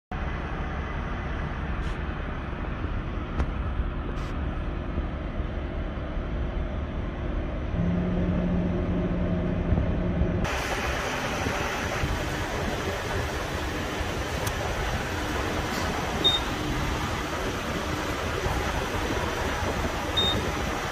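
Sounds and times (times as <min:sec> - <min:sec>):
diesel truck engine idling: 0:00.1 - 0:20.9.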